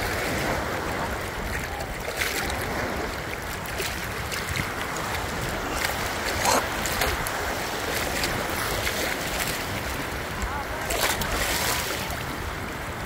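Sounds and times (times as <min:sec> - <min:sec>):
rushing water: 0:00.0 - 0:13.0
wind: 0:00.0 - 0:13.0.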